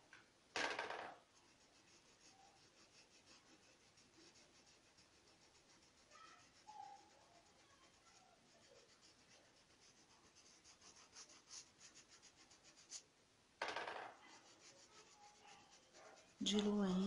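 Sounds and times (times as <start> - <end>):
paintbrush scratching on fabric: 1.2 - 13.1, 14.0 - 17.0.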